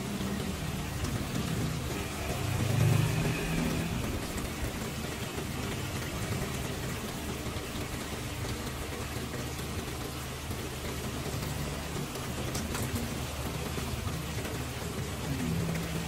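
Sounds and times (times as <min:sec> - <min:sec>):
patter of falling water: 0:00.0 - 0:16.0.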